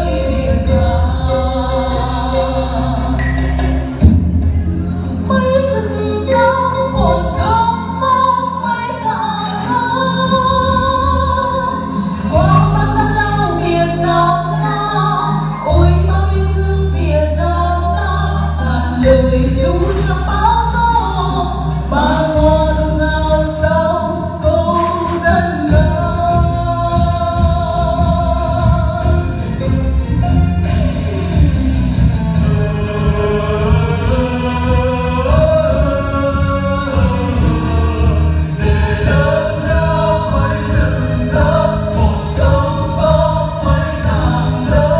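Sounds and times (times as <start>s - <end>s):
song with singing and light beat: 0.0s - 44.9s.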